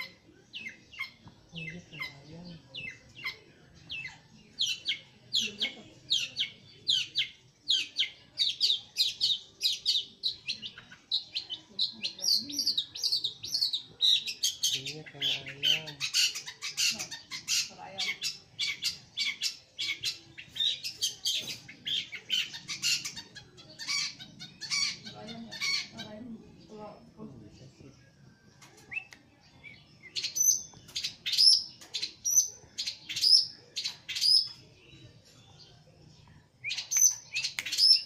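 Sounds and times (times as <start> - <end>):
bird singing rapid chattering notes: 0.0 - 27.6, 28.5 - 38.0.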